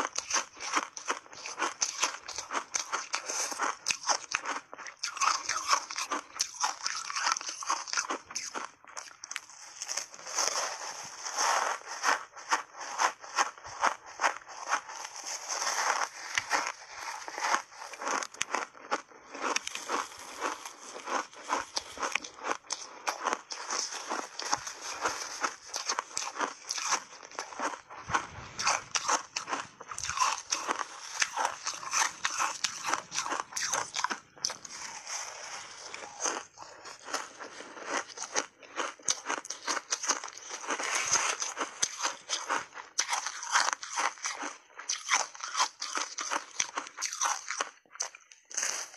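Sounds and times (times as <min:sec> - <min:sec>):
ice crunching in mouth: 0:00.0 - 0:48.9.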